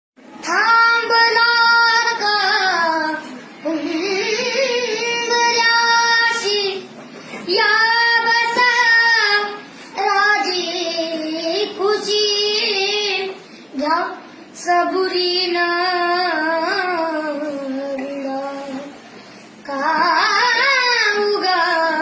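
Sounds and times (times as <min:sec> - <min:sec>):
child singing unaccompanied: 0:00.4 - 0:19.0, 0:19.6 - 0:22.0.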